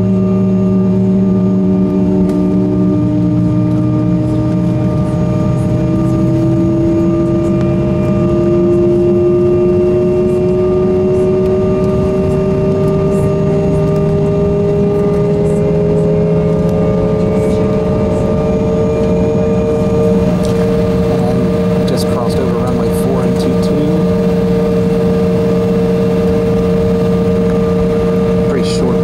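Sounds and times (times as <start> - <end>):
jet engines humming and whining: 0.0 - 29.0.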